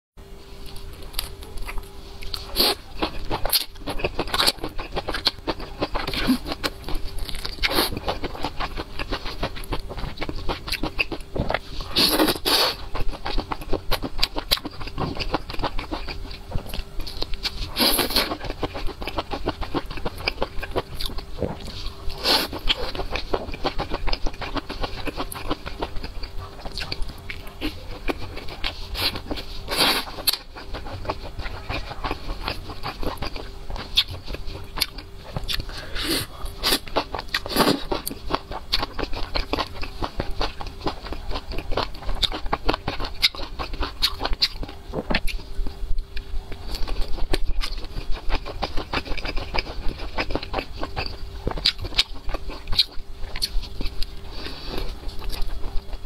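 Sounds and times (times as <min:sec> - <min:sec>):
biting and wet chewing: 0:00.6 - 0:56.0.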